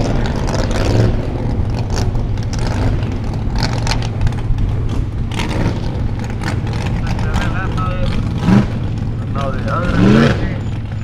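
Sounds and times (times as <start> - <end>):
buggy engine droning under load: 0.0 - 11.0
engine crackles: 0.0 - 11.0.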